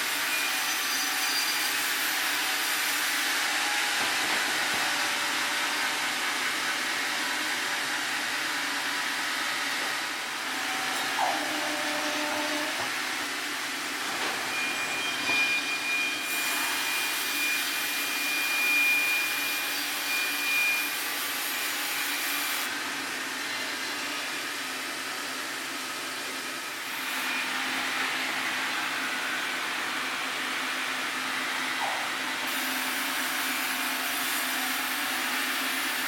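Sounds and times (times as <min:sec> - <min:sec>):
sawmill machine running: 0:00.0 - 0:36.0.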